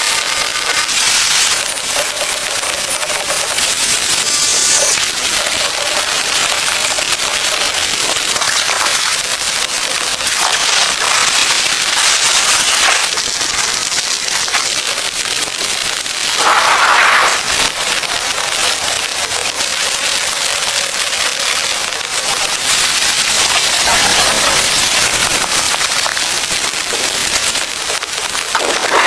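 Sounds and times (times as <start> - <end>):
heavy rain on a tent: 0.0 - 29.0
rush of rain: 0.0 - 29.0.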